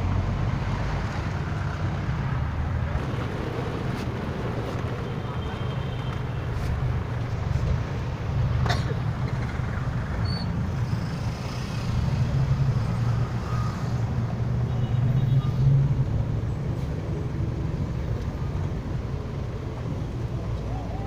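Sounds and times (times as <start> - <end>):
engine low rumble: 0.0 - 21.0.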